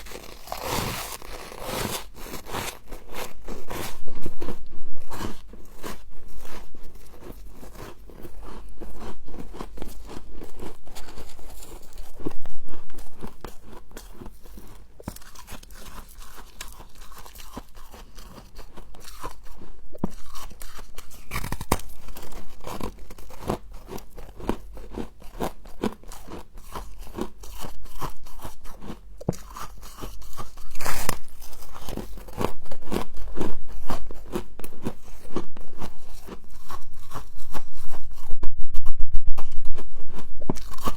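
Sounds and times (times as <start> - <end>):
crunching and chewing frost: 0.0 - 38.4, 39.4 - 40.9.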